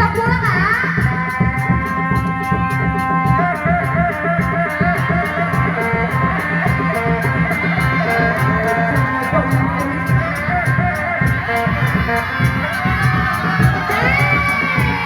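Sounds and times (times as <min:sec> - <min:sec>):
fast high metallic rhythm: 0:00.0 - 0:15.0
steady drum beat: 0:00.0 - 0:15.0.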